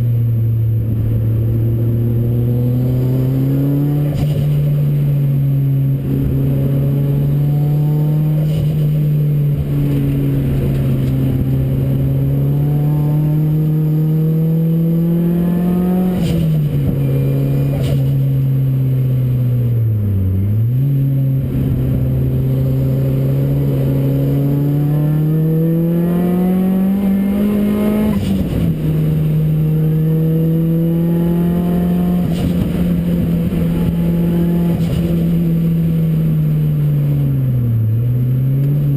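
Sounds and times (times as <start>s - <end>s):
car engine revving under load: 0.0s - 38.9s.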